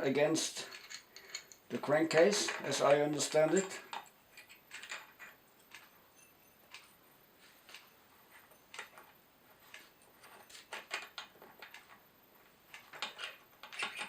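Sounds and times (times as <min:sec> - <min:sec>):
small metal parts clinking: 0:00.6 - 0:07.0, 0:07.7 - 0:12.0, 0:12.7 - 0:14.0.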